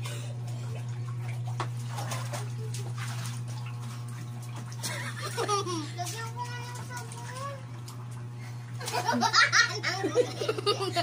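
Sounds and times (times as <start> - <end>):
water splashing in a plastic basin: 0.0 - 9.4
steady low hum: 0.0 - 11.0.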